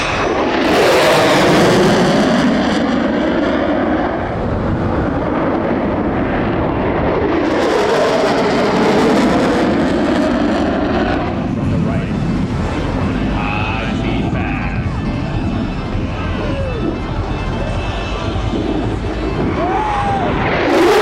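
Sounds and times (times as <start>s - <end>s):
fighter jet passing: 0.0s - 21.0s.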